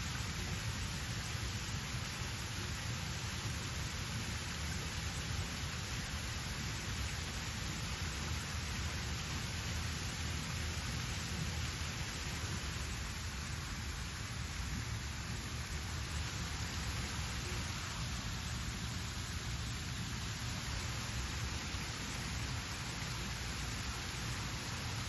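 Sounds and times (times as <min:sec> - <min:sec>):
fountain water splashing: 0:00.0 - 0:25.0.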